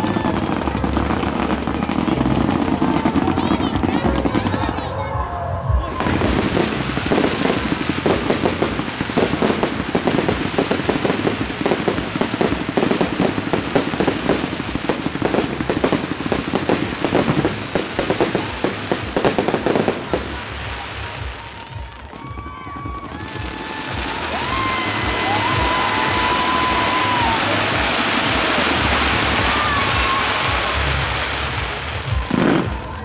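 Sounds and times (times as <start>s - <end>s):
fireworks popping and crackling: 0.0s - 5.1s, 5.9s - 33.0s.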